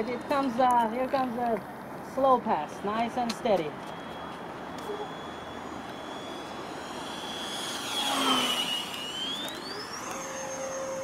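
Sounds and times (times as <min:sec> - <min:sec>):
model jet fan whining: 0:00.0 - 0:11.0.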